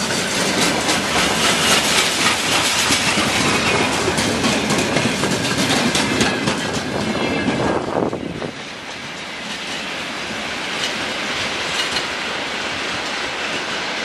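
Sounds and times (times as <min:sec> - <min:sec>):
faint clicks of train: 0:00.0 - 0:14.0
freight wagons rolling on rails: 0:00.0 - 0:14.0.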